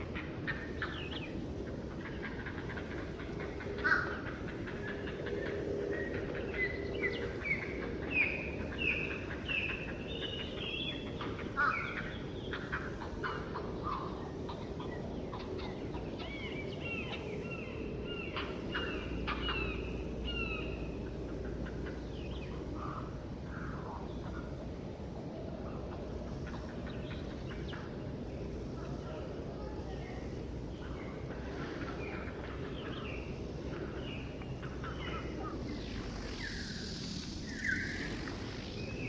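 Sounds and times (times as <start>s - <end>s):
songbirds chirping: 0.0s - 39.0s
steady low background noise: 0.0s - 39.0s.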